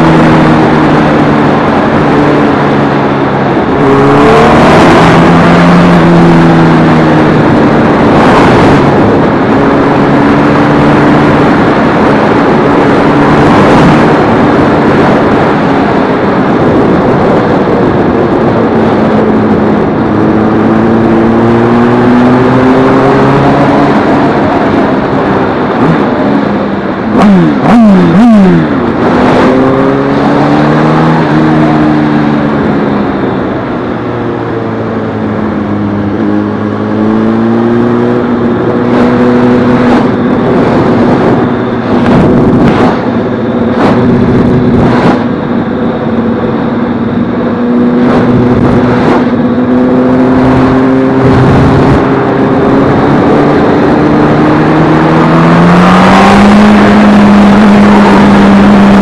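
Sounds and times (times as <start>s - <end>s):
motorcycle engine revving and running: 0.0s - 59.0s
wind buffeting microphone: 0.0s - 59.0s.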